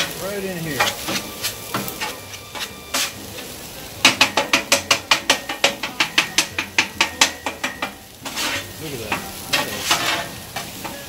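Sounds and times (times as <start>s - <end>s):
eggs sizzling: 0.0s - 11.0s
metal spatula scraping griddle: 0.0s - 11.0s.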